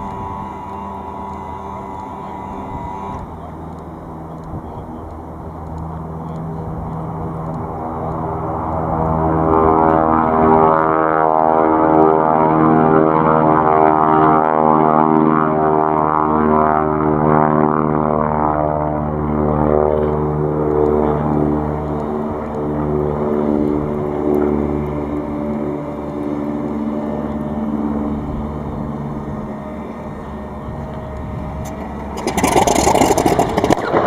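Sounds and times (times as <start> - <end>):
model aeroplane propeller droning: 0.0 - 34.0.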